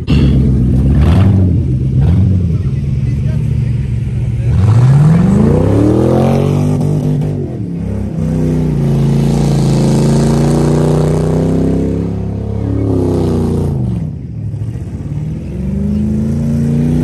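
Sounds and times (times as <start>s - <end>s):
car engine revving hard: 0.0s - 2.7s, 3.3s - 17.0s.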